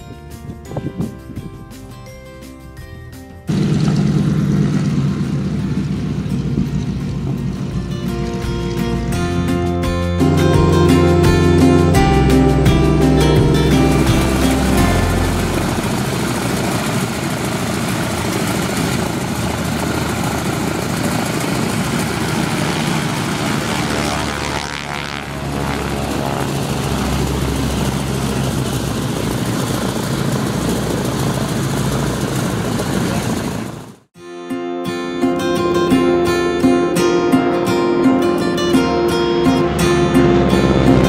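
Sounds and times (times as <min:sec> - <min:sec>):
radial aircraft engines running: 0:03.4 - 0:34.1, 0:35.9 - 0:41.0.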